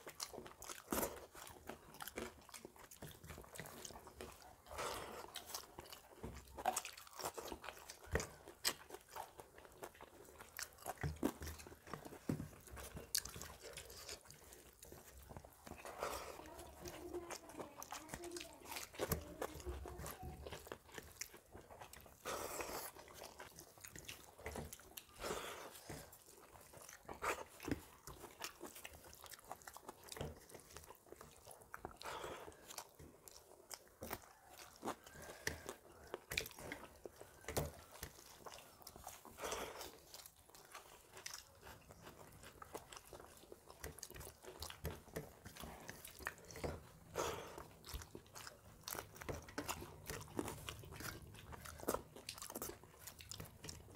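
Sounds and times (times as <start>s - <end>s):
people chewing: 0.0s - 53.9s.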